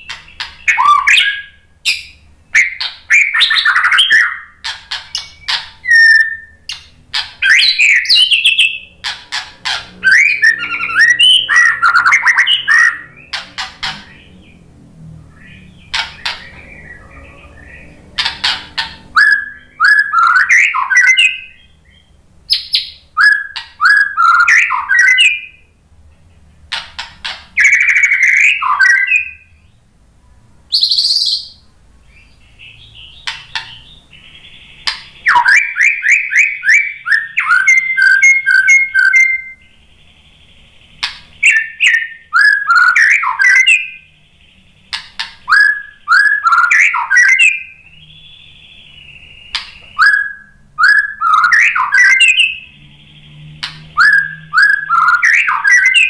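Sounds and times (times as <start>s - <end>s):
bird singing whistles and trills: 0.0s - 14.7s, 15.3s - 25.8s, 27.2s - 29.8s, 30.7s - 56.0s.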